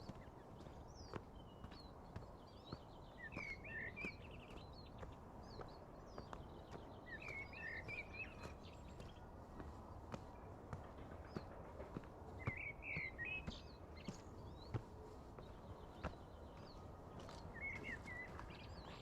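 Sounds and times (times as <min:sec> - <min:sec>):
birds chirping: 0:00.0 - 0:19.0
footsteps on trail: 0:00.0 - 0:19.0.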